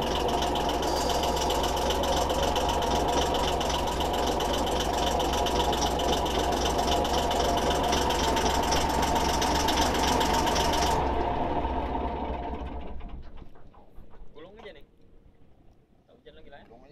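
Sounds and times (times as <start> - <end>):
boat engine knocking: 0.0 - 14.9.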